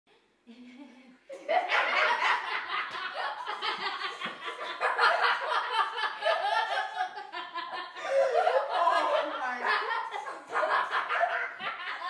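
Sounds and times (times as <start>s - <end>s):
woman and girls laughing: 0.5s - 12.0s.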